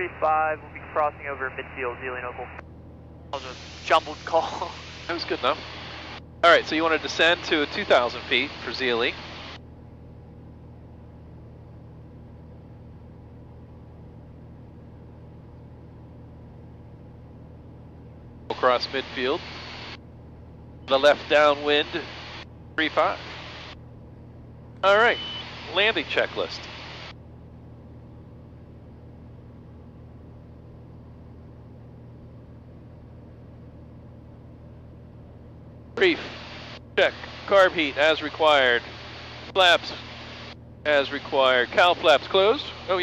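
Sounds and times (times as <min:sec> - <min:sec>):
airplane cabin engine drone: 0:00.0 - 0:43.0.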